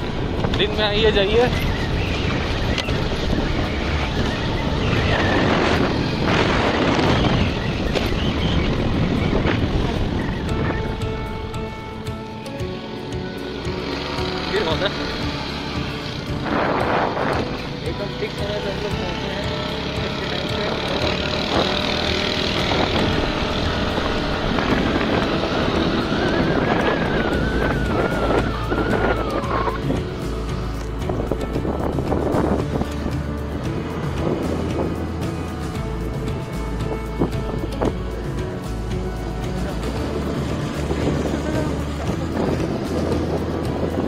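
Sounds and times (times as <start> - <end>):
wind buffeting microphone: 0.0 - 12.3, 15.8 - 18.0, 21.3 - 44.0
motorbike engine: 0.0 - 44.0.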